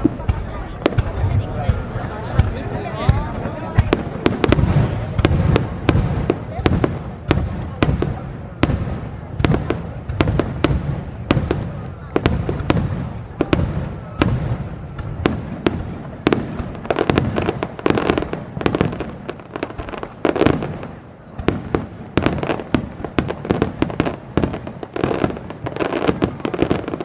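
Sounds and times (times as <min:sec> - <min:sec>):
crackling firework stars: 0:00.0 - 0:27.0.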